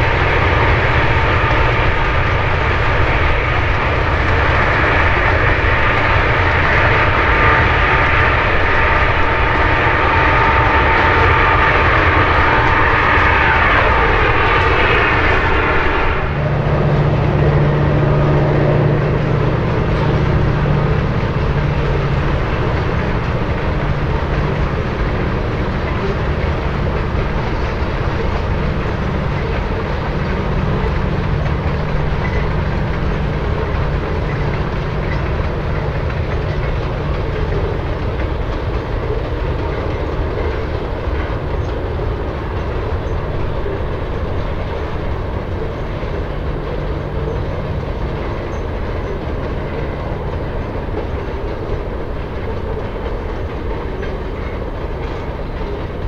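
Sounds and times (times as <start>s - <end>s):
diesel locomotive engines droning: 0.0s - 56.0s
train cars clacking on rails: 0.0s - 56.0s.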